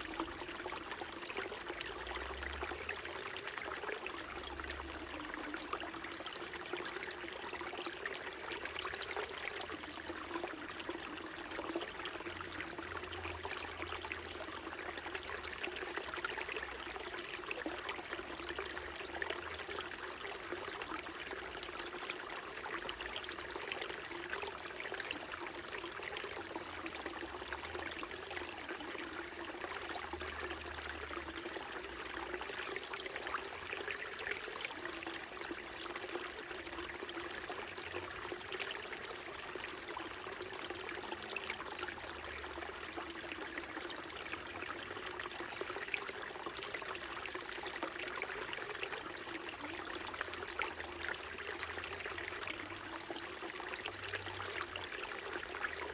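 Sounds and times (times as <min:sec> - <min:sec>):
stream babbling over stones: 0:00.0 - 0:55.9.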